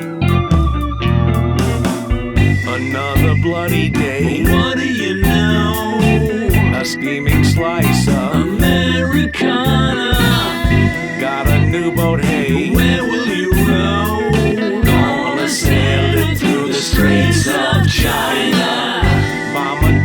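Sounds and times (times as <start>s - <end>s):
band playing a song: 0.0s - 20.0s
person singing: 2.4s - 20.0s.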